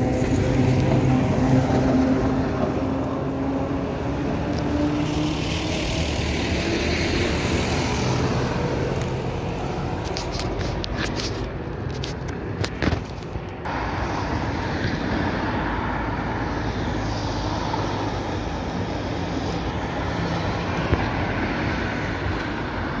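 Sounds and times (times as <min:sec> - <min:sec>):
traffic passing: 0:00.0 - 0:23.0.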